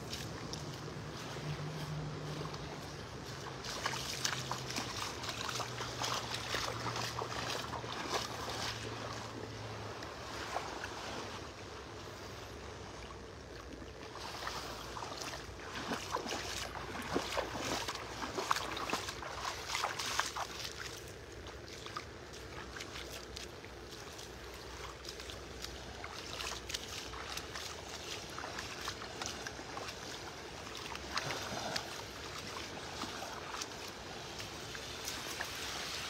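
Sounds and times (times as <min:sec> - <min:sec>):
distant motorboat engine hum: 0:00.0 - 0:36.0
gentle water at shore: 0:00.0 - 0:36.0.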